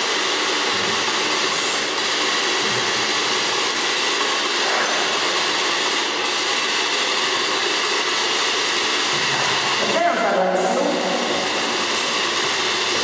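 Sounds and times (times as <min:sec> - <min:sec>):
loud static hiss: 0:00.0 - 0:13.0.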